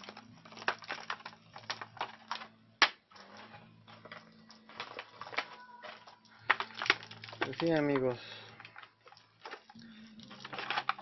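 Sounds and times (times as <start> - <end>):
small objects clicking and tapping: 0.0 - 11.0.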